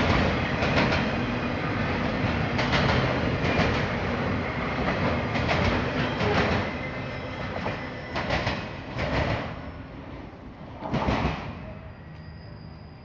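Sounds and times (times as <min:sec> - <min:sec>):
freight train rolling past: 0:00.0 - 0:13.0.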